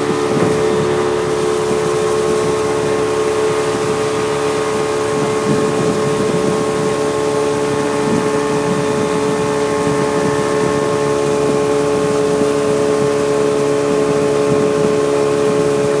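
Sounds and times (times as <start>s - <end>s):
motorboat engine running: 0.0s - 16.0s
wind and water rushing: 0.0s - 16.0s.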